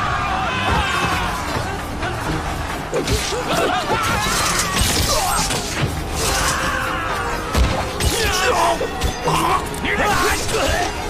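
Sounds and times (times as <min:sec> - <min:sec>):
soldiers shouting and yelling: 0:00.0 - 0:05.6, 0:06.2 - 0:11.0
faint background music: 0:00.0 - 0:11.0.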